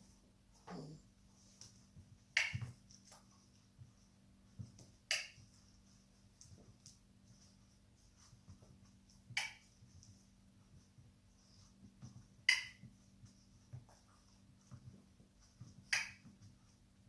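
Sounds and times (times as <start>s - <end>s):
faint small rustles: 0.0s - 17.0s.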